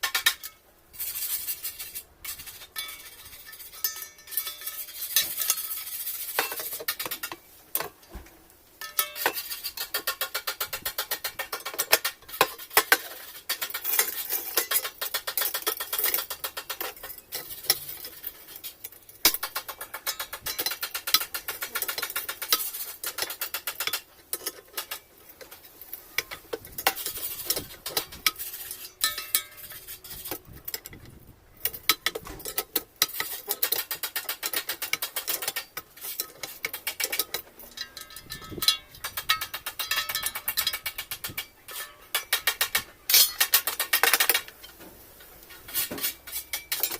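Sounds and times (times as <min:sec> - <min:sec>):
metal parts clinking and rattling: 0:00.0 - 0:07.9, 0:08.8 - 0:44.8, 0:45.6 - 0:46.9.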